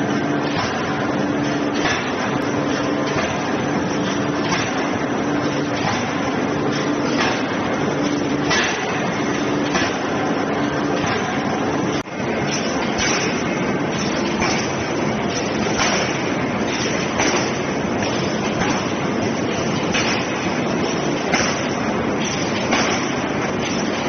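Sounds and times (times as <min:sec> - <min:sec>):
machine hum and noise: 0:00.0 - 0:24.0.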